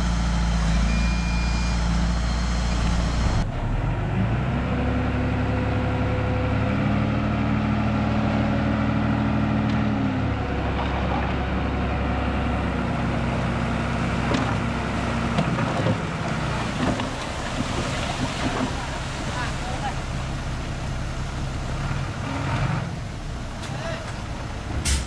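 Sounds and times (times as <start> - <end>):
heavy machine diesel engine: 0.0 - 25.0.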